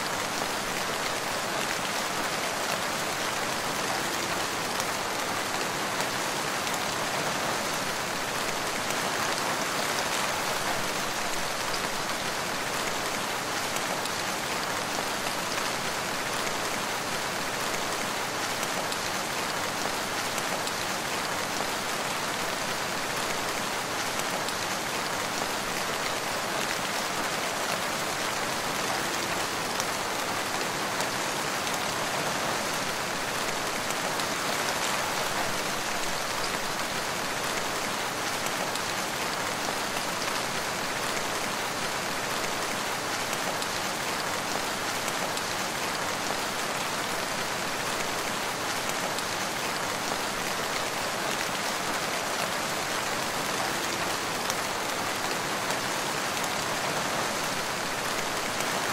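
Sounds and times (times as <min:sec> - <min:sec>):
steady rain in a forest: 0:00.0 - 0:58.9.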